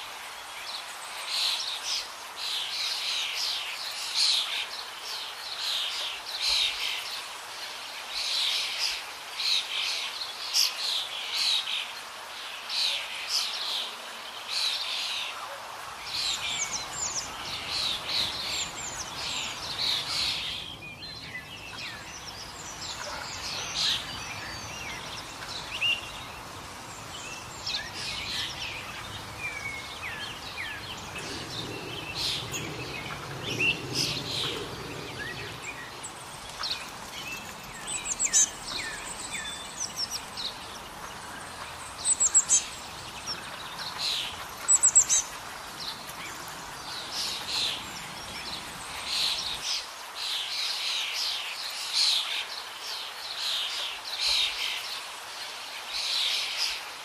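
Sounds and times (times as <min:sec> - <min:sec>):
small birds chirping and singing: 0:00.0 - 0:56.9
steady background hiss: 0:00.0 - 0:57.0.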